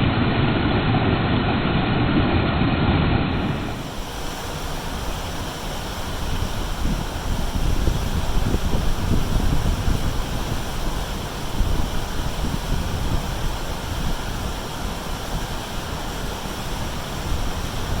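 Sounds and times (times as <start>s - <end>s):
creek water rushing: 3.3s - 18.0s
wind buffeting microphone: 3.3s - 18.0s.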